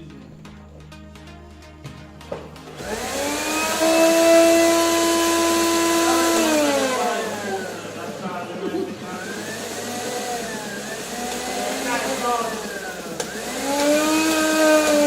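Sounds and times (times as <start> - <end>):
kitchen appliance motor whine: 2.6 - 15.0.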